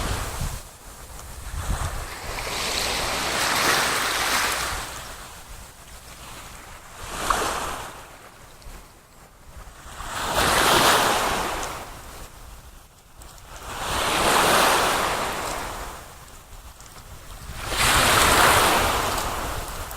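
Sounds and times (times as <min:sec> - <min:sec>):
waves washing in: 0:00.0 - 0:12.4, 0:13.4 - 0:16.3, 0:17.4 - 0:19.9.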